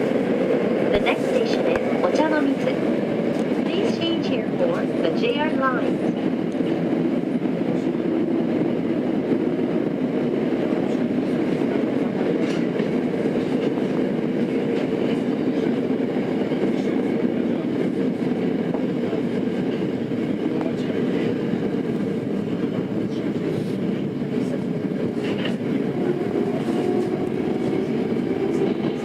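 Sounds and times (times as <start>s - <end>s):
subway wheel and rail noise: 0.0s - 29.0s.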